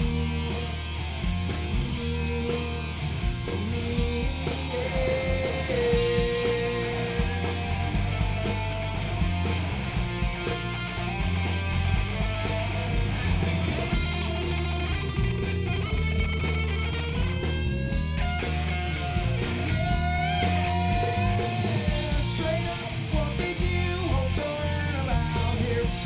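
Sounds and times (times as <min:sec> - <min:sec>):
bass line: 0:00.0 - 0:26.0
drums: 0:00.0 - 0:26.0
electric guitar: 0:00.0 - 0:26.0.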